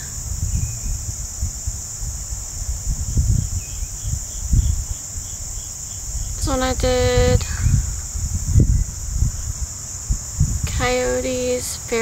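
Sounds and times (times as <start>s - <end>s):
high-pitched insect chorus: 0.0s - 12.0s
wind rumble on microphone: 0.0s - 12.0s.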